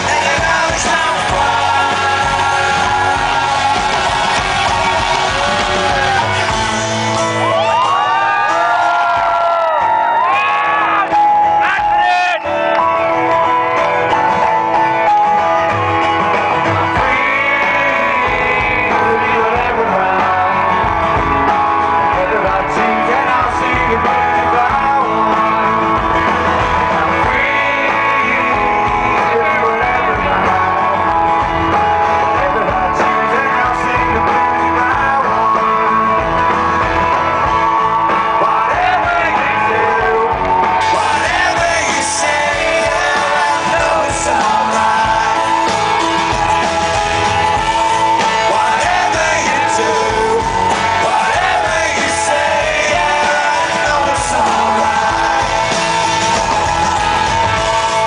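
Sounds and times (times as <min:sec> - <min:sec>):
person singing: 0:00.0 - 0:12.9, 0:16.4 - 0:58.0
live rock band playing: 0:00.0 - 0:58.0.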